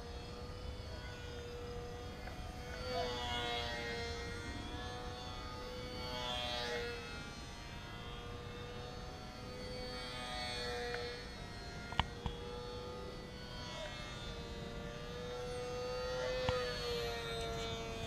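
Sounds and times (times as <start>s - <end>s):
model plane motor whine: 0.0s - 18.0s.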